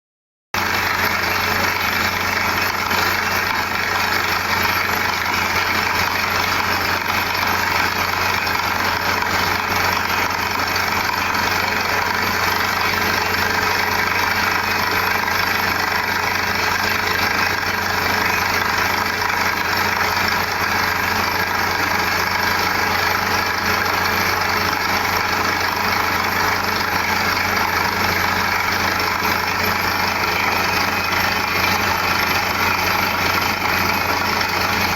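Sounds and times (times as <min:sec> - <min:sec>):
drilling rig engine droning: 0:00.6 - 0:34.9.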